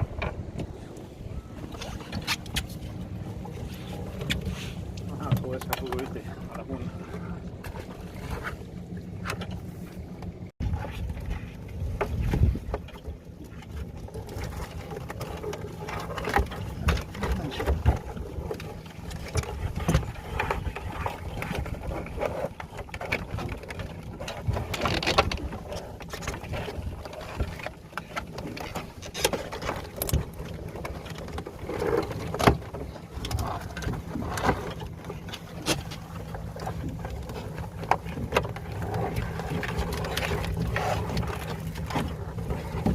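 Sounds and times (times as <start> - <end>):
small boat engine running: 0.0 - 42.9.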